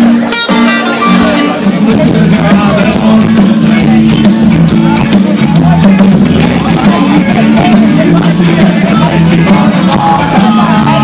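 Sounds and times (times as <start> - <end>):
bass line: 0.0 - 11.0
crowd voices: 0.0 - 11.0
live band music: 0.0 - 11.0
person singing: 0.4 - 5.8, 6.4 - 11.0.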